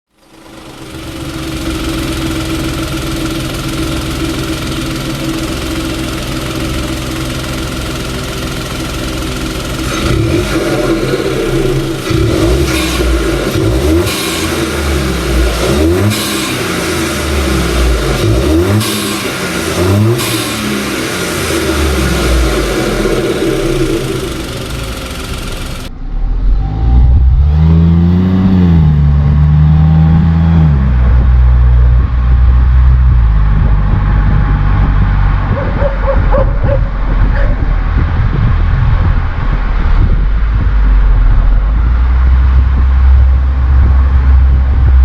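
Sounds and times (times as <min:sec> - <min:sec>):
car engine idling and revving: 0:00.1 - 0:45.0.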